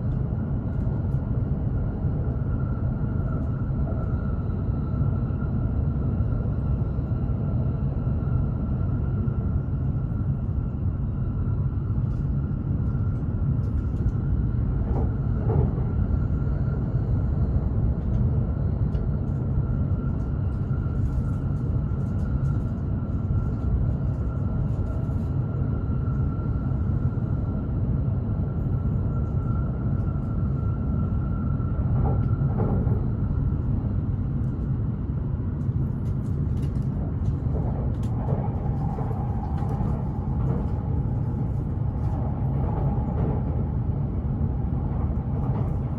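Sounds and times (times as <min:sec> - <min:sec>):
train rumble inside cabin: 0:00.0 - 0:45.9.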